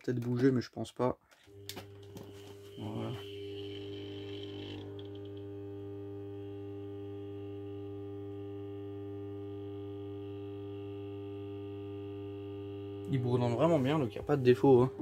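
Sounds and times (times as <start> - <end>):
lamp ballast mains hum: 1.5 - 15.0.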